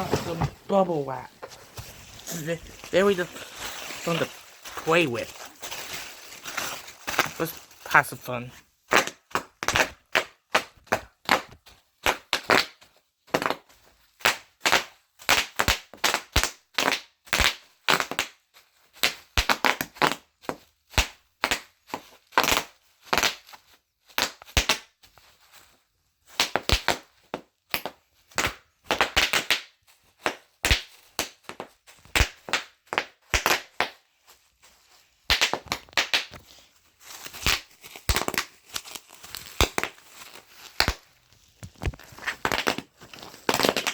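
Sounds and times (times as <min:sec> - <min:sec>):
bubble wrap popping: 0:00.0 - 0:43.9.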